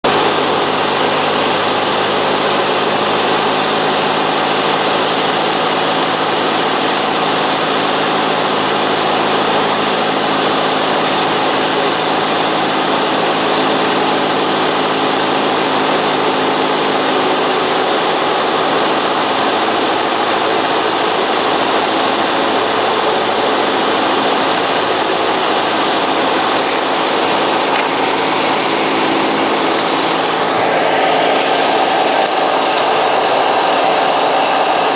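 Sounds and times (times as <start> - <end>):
propeller plane engine drone: 0.0 - 34.9.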